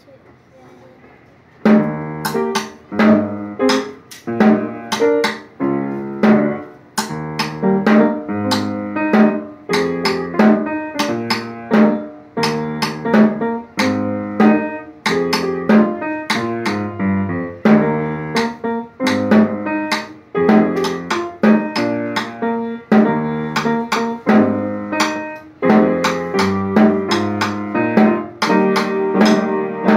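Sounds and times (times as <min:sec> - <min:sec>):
snare drum strokes: 0:01.6 - 0:17.0, 0:17.6 - 0:29.9
plucked guitar and piano music: 0:01.6 - 0:29.9.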